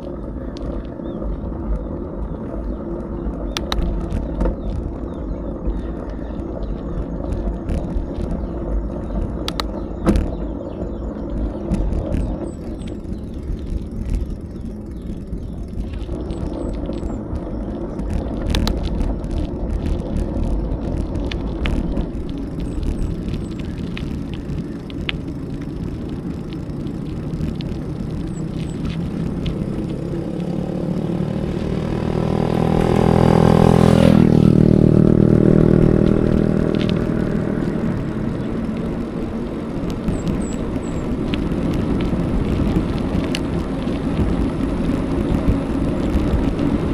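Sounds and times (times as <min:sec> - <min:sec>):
bicycle road rumble: 0:00.0 - 0:46.9
motor vehicle passing: 0:00.0 - 0:46.9
wind: 0:00.0 - 0:46.9.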